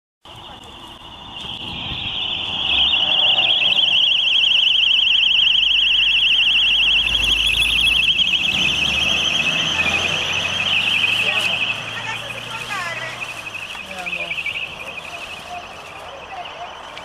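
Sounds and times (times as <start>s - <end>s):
electronic siren warbling: 0.3s - 17.0s.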